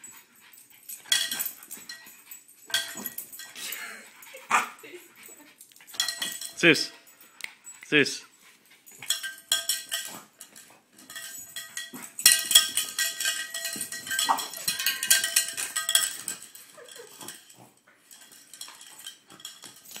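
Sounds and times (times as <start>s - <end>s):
cowbell clanking and rattling: 0.0s - 7.8s, 8.9s - 20.0s.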